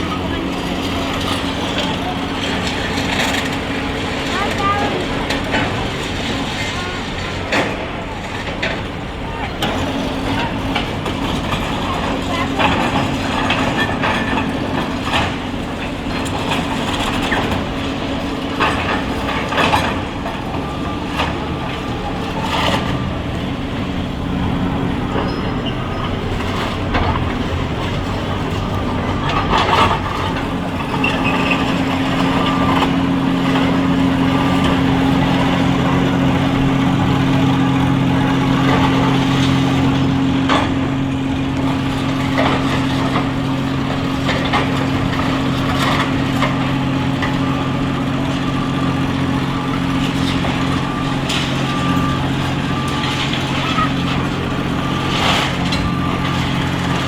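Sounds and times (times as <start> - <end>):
demolition clanks and crunches: 0.0 - 57.0
excavator diesel engine running: 0.0 - 57.0.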